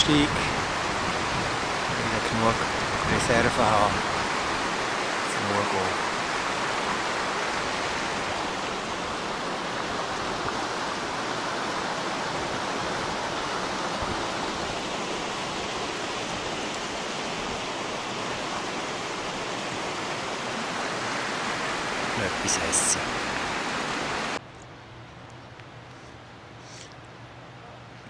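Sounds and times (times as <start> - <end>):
creek water rushing: 0.0 - 24.4.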